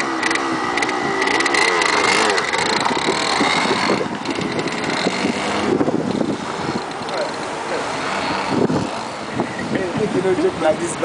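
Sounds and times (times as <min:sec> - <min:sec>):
dirt bike engine running: 0:00.0 - 0:10.6.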